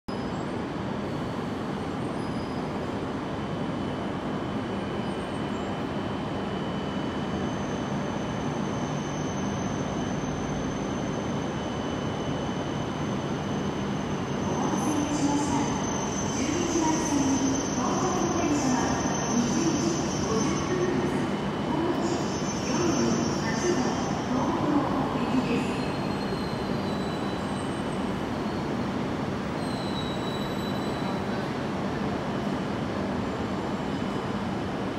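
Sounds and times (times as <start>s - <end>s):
station platform hum and rumble: 0.1s - 34.9s
train approaching: 0.4s - 34.9s.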